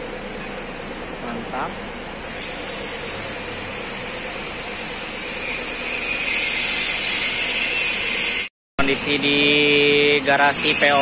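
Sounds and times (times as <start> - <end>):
machine running with hiss: 0.0 - 11.0.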